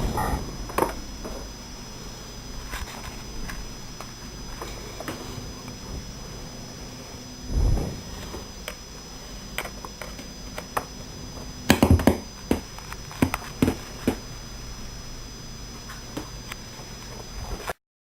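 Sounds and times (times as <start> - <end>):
steady hiss: 0.0 - 17.6
high-pitched whine: 0.0 - 17.7.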